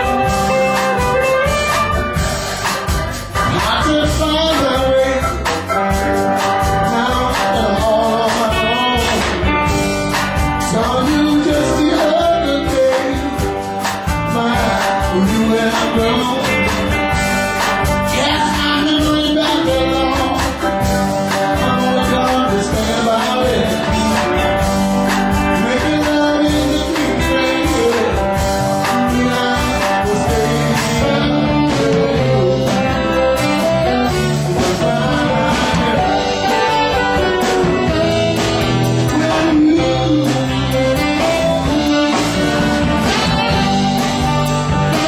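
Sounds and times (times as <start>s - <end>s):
electric guitar: 0.0s - 45.0s
live band playing amplified music: 0.0s - 45.0s.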